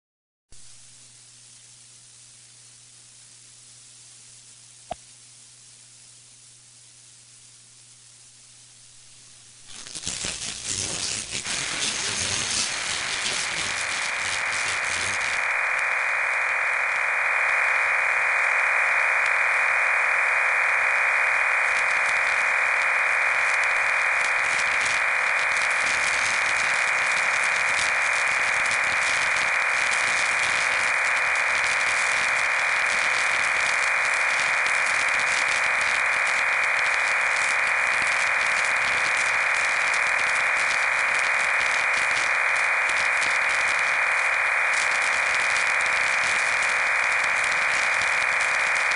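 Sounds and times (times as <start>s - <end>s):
radio static hiss: 0.6s - 48.9s.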